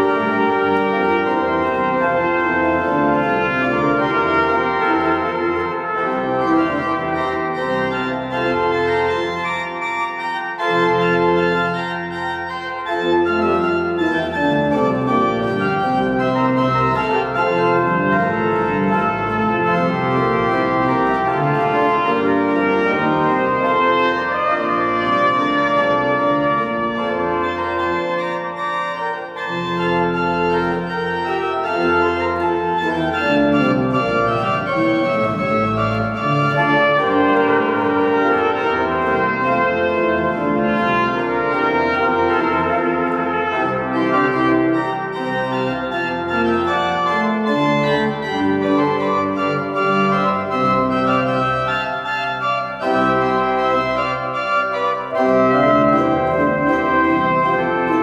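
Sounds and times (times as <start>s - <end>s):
brass horn melody: 0.0s - 58.0s
pipe organ chords: 0.0s - 58.0s.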